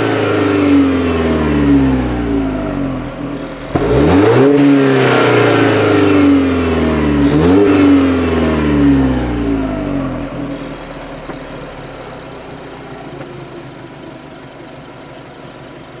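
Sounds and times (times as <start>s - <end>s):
car engine revving down: 0.0s - 13.8s.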